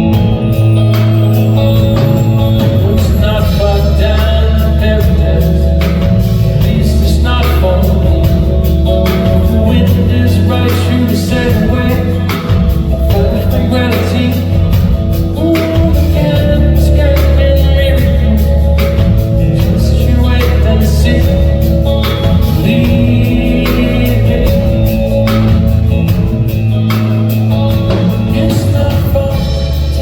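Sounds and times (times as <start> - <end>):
bass line: 0.0 - 30.0
guitar: 0.0 - 30.0
live band playing soft-rock ballad: 0.0 - 30.0
strummed chords: 0.0 - 30.0.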